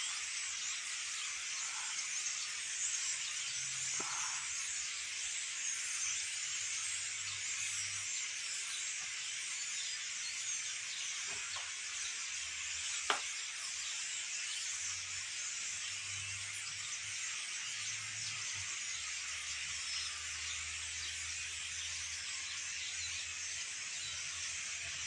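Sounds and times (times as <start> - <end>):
flock of birds chattering: 0.0 - 25.0.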